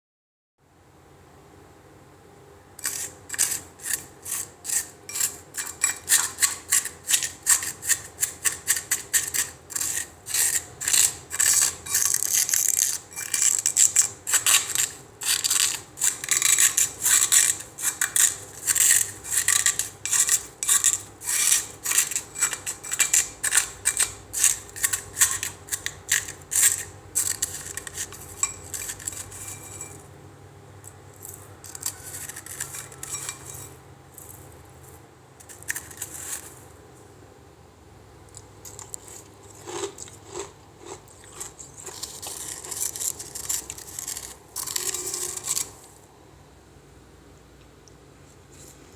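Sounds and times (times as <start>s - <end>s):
ice being scraped: 2.8s - 30.1s, 31.1s - 36.7s, 38.7s - 46.0s.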